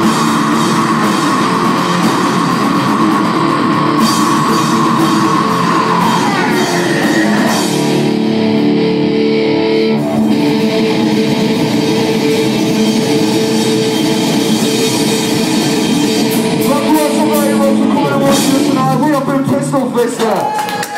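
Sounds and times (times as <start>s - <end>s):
rock band playing loudly: 0.0s - 20.9s.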